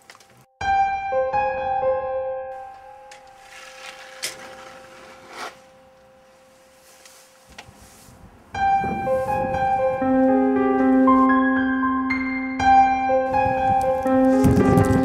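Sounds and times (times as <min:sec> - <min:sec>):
piano playing: 0:00.6 - 0:07.4, 0:08.5 - 0:15.0.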